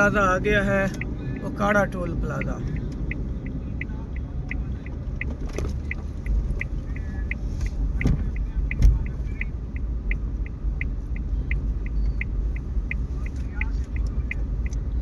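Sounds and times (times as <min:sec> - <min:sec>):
car road rumble: 0:00.0 - 0:15.0
high-pitched ticks: 0:00.0 - 0:15.0.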